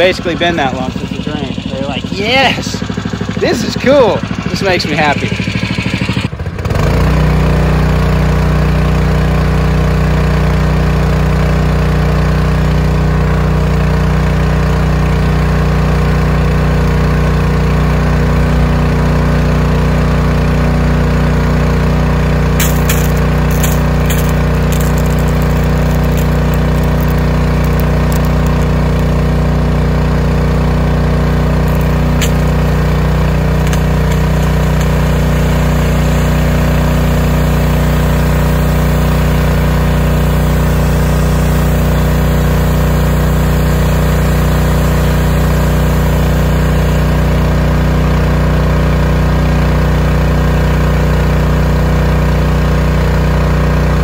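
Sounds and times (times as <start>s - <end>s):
water pump engine running: 0.0s - 54.0s.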